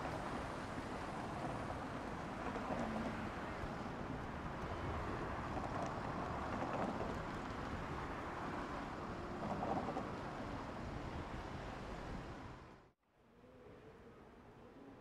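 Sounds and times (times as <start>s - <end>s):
city street traffic: 0.0s - 12.9s.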